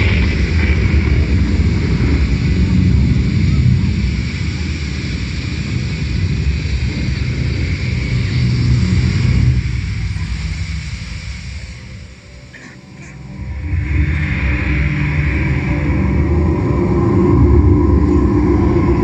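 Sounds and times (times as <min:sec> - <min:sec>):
low steady rumbling: 0:00.0 - 0:19.0.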